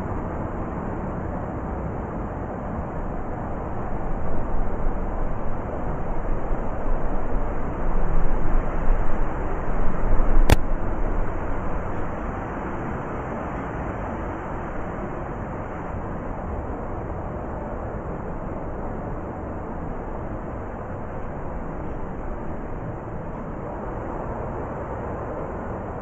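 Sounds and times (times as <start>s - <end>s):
blizzard wind gusting: 0.0s - 26.0s.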